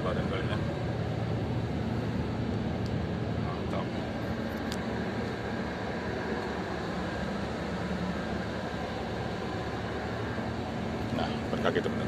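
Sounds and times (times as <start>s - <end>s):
air conditioning running: 0.0s - 12.0s
coach cabin hum and air rush: 0.0s - 12.0s.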